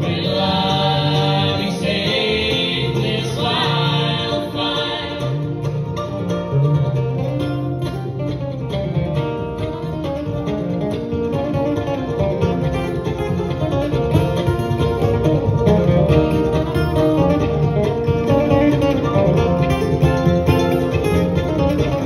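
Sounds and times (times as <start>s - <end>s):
acoustic guitar lead: 0.0s - 22.0s
bluegrass band playing: 0.0s - 22.0s.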